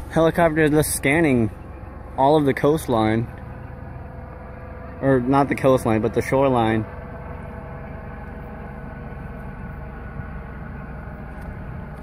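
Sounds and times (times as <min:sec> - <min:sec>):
helicopter drone: 0:00.0 - 0:12.0.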